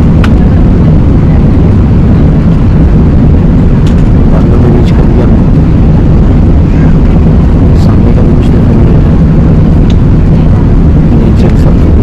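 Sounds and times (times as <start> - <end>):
low rumble of aircraft engines: 0.0 - 12.0.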